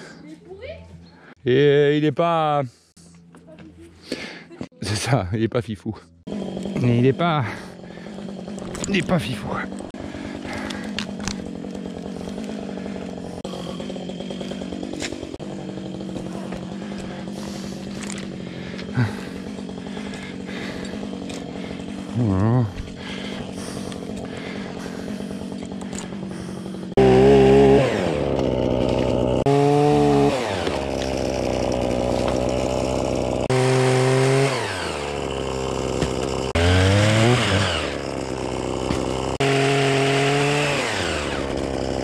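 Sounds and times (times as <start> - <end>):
pole saw motor bursts: 6.2 - 42.0.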